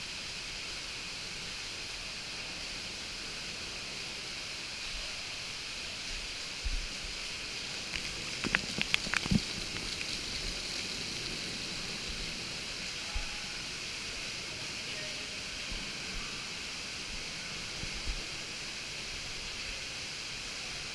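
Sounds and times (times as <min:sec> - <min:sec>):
water rushing: 0:00.0 - 0:20.9.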